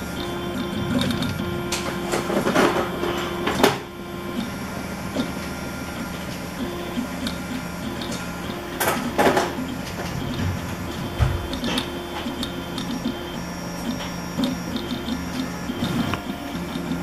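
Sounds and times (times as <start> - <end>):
sharp printer clicks: 0.0 - 17.0
steady machine hum: 0.0 - 17.0
stepper motors whining: 0.0 - 17.0.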